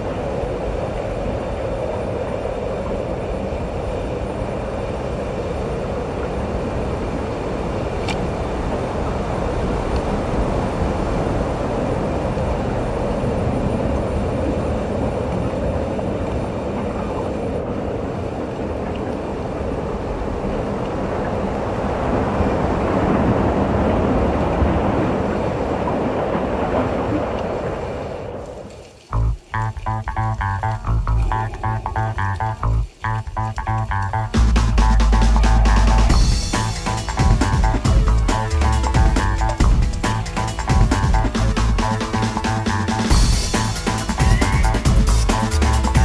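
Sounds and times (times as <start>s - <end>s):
underwater rumble: 0.0s - 46.0s.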